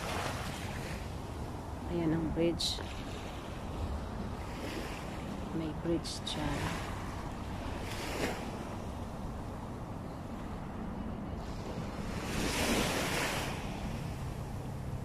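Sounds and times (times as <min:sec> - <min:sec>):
waves washing on a beach: 0:00.0 - 0:15.0
wind rumble on microphone: 0:00.0 - 0:15.0.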